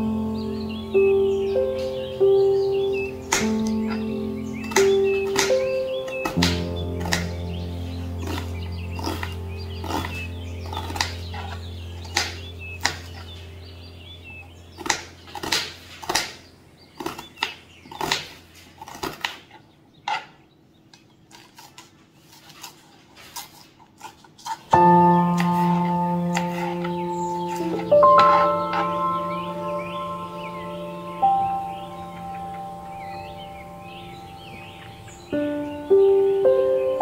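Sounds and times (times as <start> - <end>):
background music sustained notes: 0.0 - 17.8, 24.7 - 37.0.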